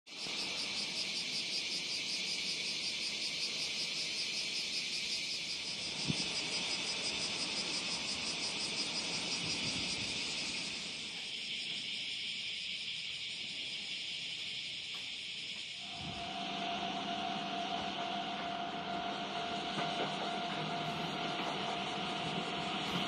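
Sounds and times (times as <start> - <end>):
cicadas buzzing: 0.1 - 23.0.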